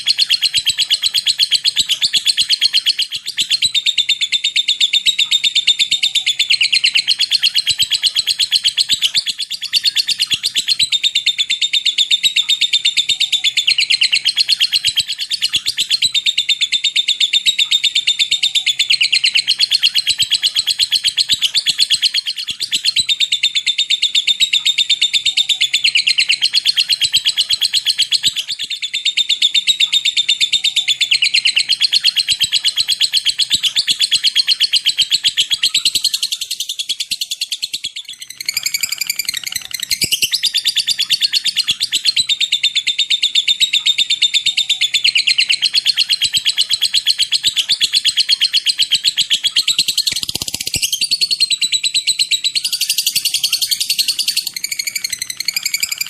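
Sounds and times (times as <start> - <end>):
lovebird chattering trill: 0.0 - 56.0.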